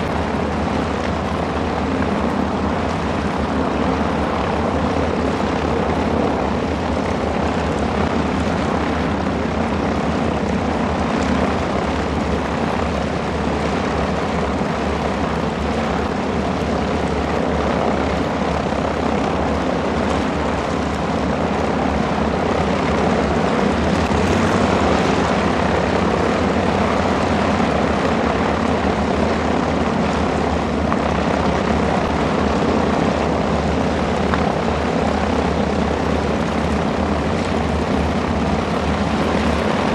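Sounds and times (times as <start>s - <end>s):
propeller engine drone: 0.0s - 39.9s.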